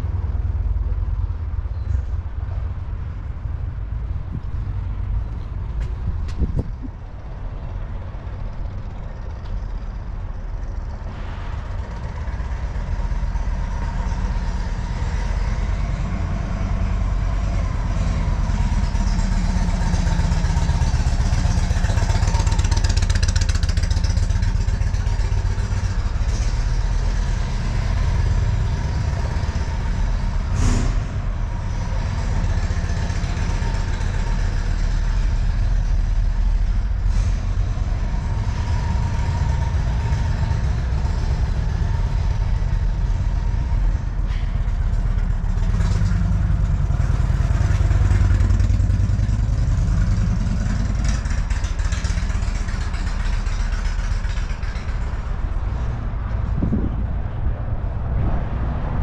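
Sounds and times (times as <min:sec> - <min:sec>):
traffic rumble: 0:00.0 - 0:59.0.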